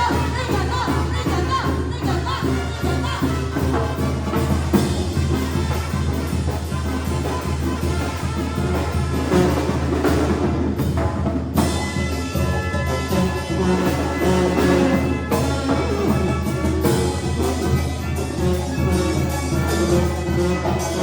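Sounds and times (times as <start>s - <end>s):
band playing with drums: 0.0s - 21.0s.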